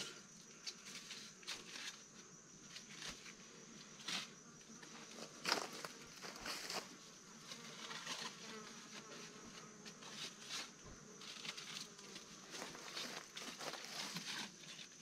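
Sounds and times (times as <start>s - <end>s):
faint insect buzzing: 0.0s - 15.0s.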